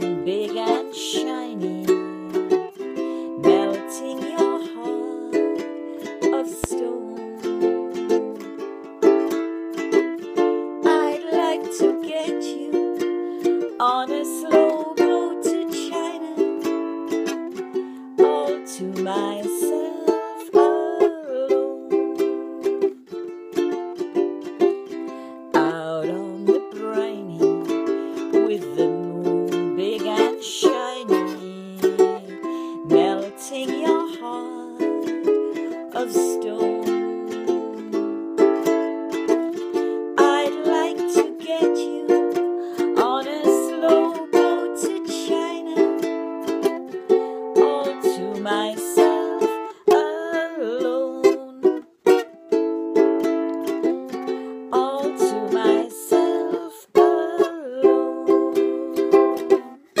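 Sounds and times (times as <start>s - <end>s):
ukulele strumming chords: 0.0s - 60.0s.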